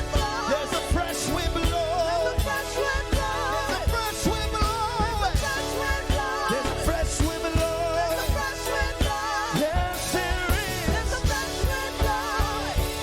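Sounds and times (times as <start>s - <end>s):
band playing gospel music: 0.0s - 13.0s
drum beat: 0.0s - 13.0s
person singing with vibrato: 0.0s - 13.0s.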